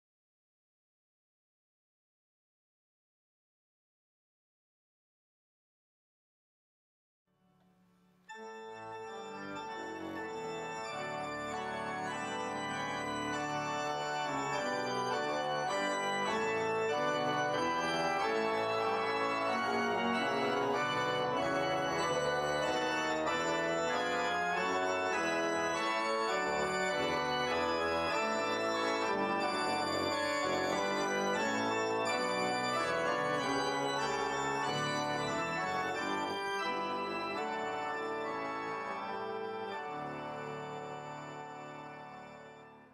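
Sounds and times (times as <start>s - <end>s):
pipe organ playing chords: 8.3s - 42.9s.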